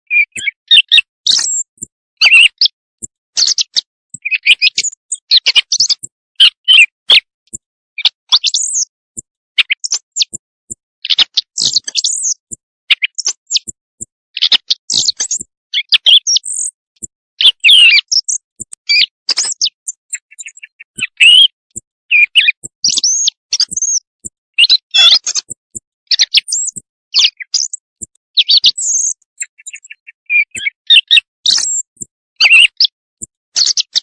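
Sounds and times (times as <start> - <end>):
recorded bird chirps and whistles: 0.1 - 34.0.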